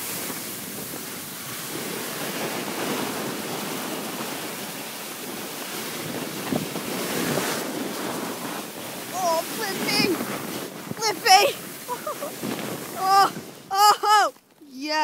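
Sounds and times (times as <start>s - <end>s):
snow tube sliding on snow: 0.0s - 15.0s
wind on microphone: 0.0s - 15.0s.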